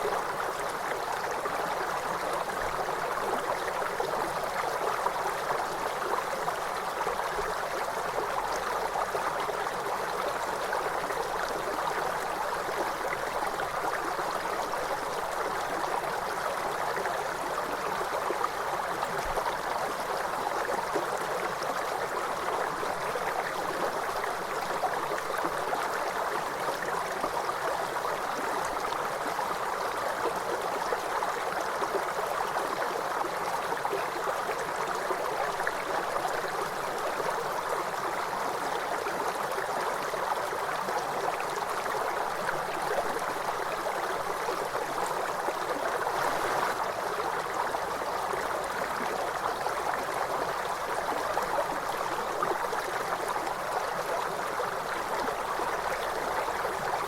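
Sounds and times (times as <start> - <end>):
stream water flowing over rocks: 0.0 - 57.0.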